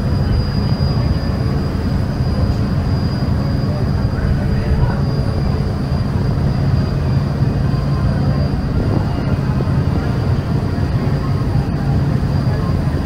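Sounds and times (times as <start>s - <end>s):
ship diesel engines rumbling: 0.0s - 13.0s
water washing along hull: 0.0s - 13.0s.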